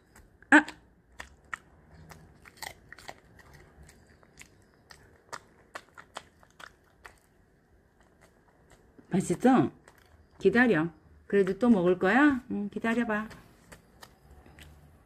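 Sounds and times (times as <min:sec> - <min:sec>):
dog chewing and licking: 0:00.0 - 0:10.6, 0:12.9 - 0:15.0.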